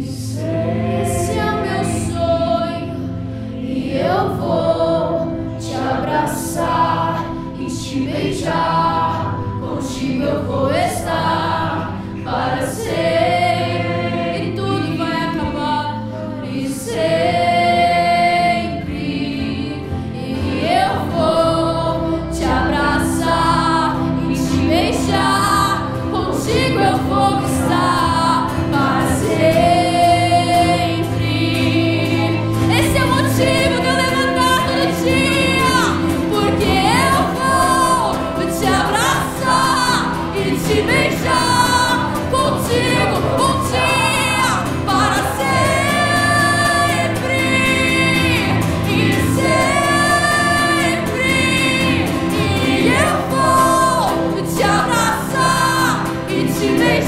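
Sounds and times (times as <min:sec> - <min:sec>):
acoustic guitar: 0:00.0 - 0:57.0
keyboard: 0:00.0 - 0:57.0
voices singing along: 0:00.0 - 0:57.0
woman singing: 0:03.9 - 0:57.0.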